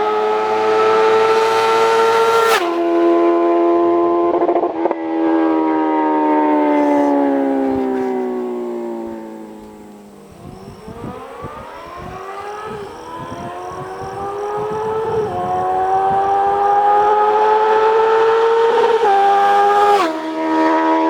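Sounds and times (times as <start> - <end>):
motorcycle engine accelerating hard: 0.0 - 21.0.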